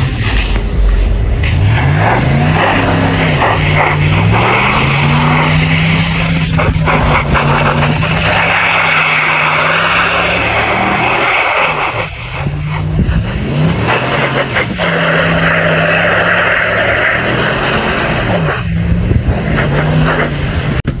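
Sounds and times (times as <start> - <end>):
rushing road noise: 0.0 - 21.0
truck engine revving: 0.0 - 21.0.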